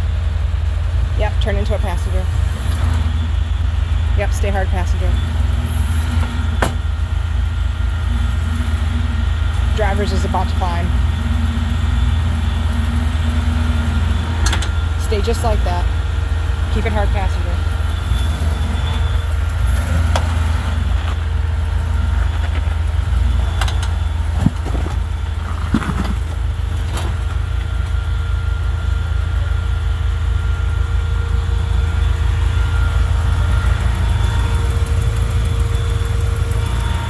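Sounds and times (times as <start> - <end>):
engine running at low revs: 0.0 - 37.0.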